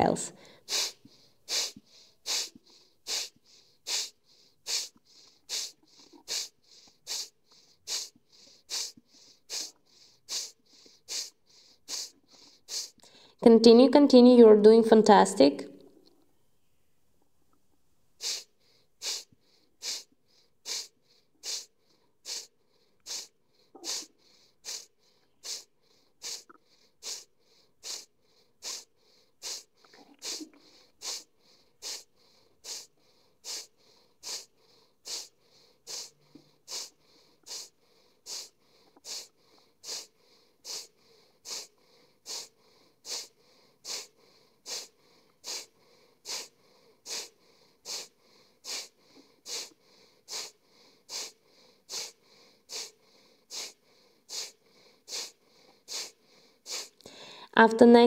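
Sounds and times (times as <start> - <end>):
forceful nasal exhales: 0.4 - 13.3, 18.2 - 57.5.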